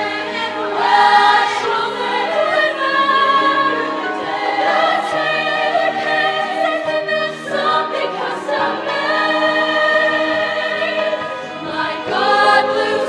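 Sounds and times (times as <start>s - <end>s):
choir singing in harmony: 0.0s - 13.0s.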